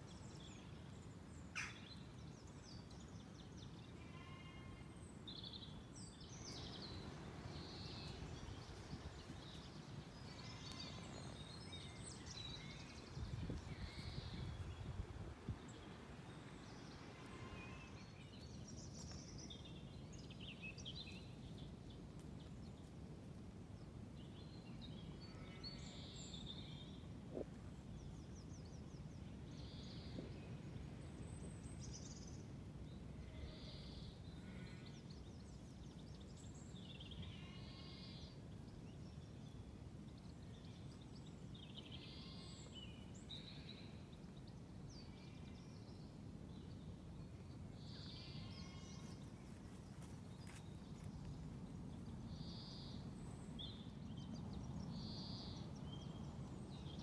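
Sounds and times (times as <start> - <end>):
small birds singing: 0.0 - 23.0, 23.7 - 57.0.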